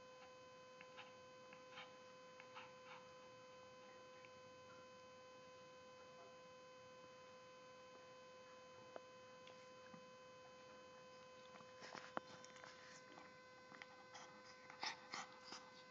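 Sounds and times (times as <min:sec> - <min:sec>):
steady electrical hum: 0:00.0 - 0:15.9.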